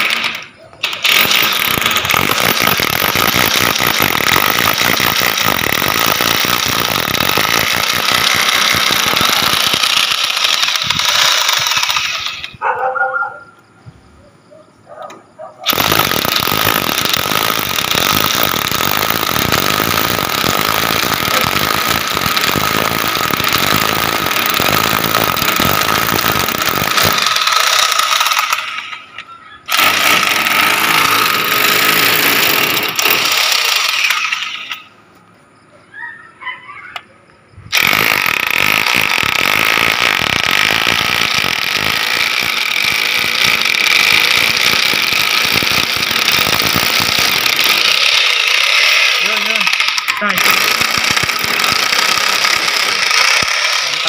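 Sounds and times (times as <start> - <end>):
hammer drill boring: 0.0 - 12.6, 15.7 - 34.9, 37.7 - 54.0.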